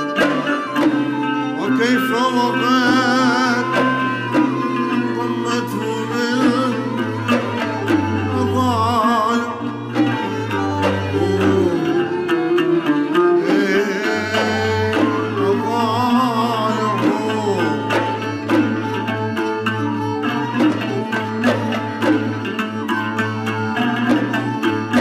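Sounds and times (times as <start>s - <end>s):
hand drums beating: 0.0s - 25.0s
plucked strings: 0.0s - 25.0s.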